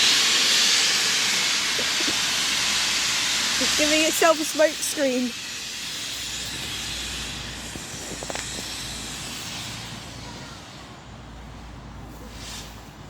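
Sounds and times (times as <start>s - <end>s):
steam locomotive venting steam: 0.0s - 13.0s.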